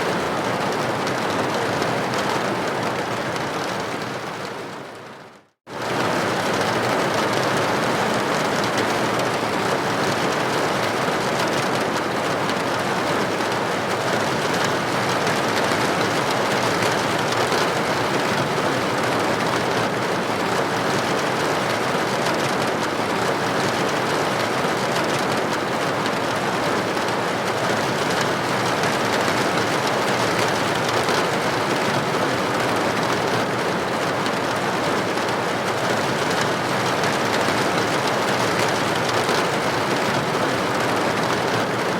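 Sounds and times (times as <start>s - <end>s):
rain hitting a window: 0.0s - 41.9s.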